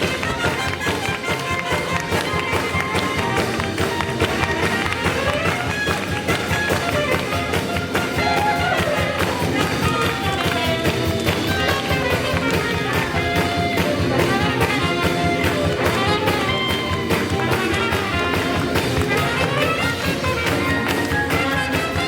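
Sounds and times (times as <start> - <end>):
swing jazz band playing: 0.0 - 22.0.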